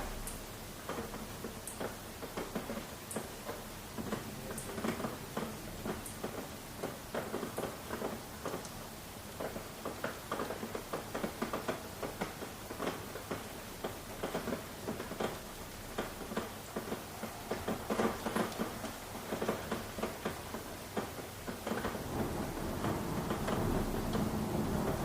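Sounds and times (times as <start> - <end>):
rain drops pattering on hard surface: 0.0 - 25.0
soft steady rain hiss: 0.0 - 25.0.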